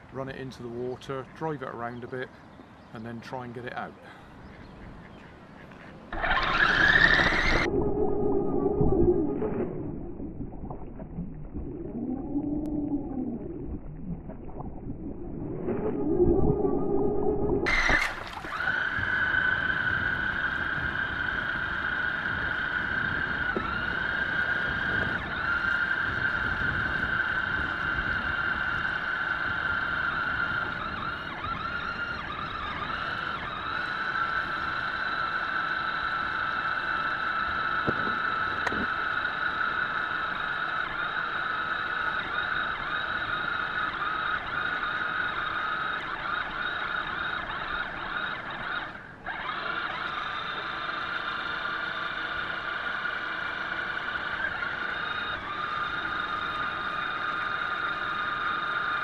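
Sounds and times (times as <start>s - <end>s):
electric motor whine: 6.1s - 59.0s.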